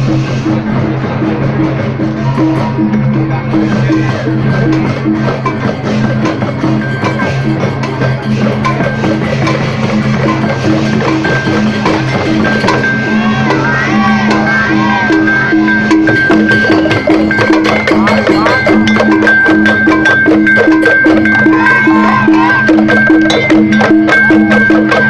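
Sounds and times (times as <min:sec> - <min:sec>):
gamelan playing: 0:00.0 - 0:25.0
gongs ringing low tones: 0:00.0 - 0:25.0
clashing cymbals and drums: 0:03.5 - 0:25.0.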